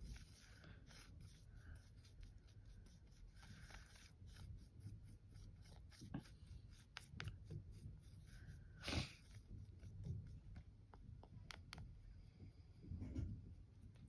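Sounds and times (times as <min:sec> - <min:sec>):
paintbrush brushing: 0:00.0 - 0:11.9.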